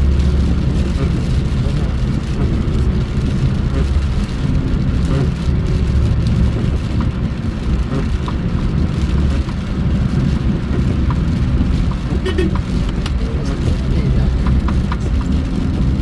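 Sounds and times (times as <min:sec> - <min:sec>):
vehicle driving on road: 0:00.0 - 0:16.0.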